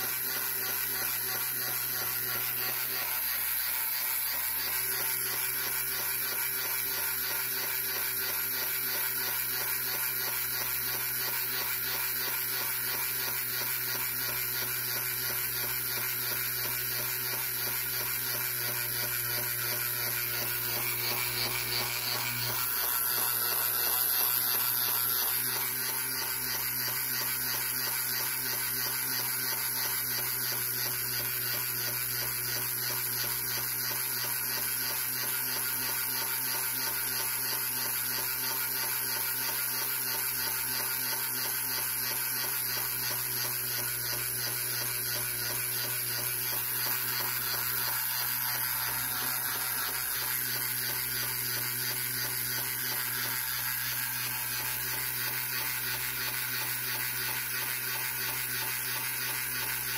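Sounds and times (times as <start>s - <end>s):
small electric motor and gearbox running: 0.0s - 59.9s.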